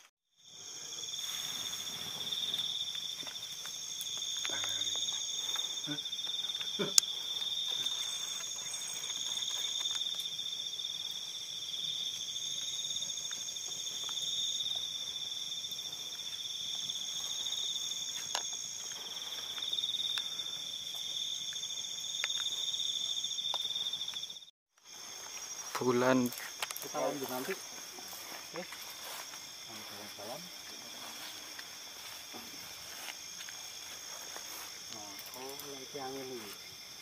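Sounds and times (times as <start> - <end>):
night insects trilling: 0.3 - 37.0.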